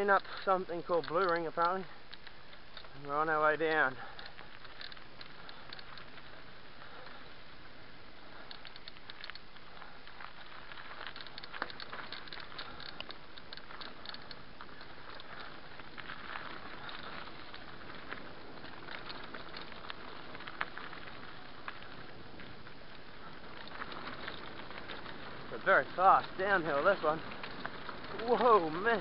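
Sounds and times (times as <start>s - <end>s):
small clicks and rattles: 0.0s - 7.2s, 8.3s - 29.0s
bike tyres on stony dirt: 0.0s - 29.0s.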